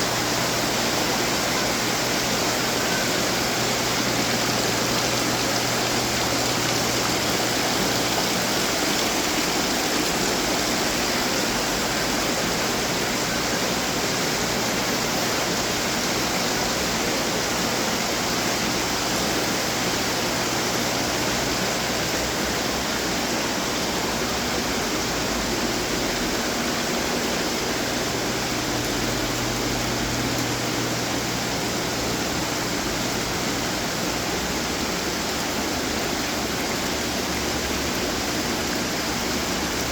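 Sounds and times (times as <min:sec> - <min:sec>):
water fountains splashing: 0:00.0 - 0:39.9.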